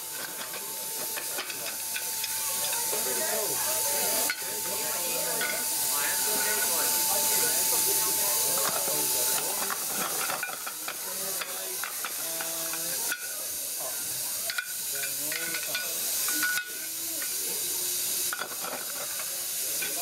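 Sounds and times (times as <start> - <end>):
steam hissing: 0.0 - 20.0.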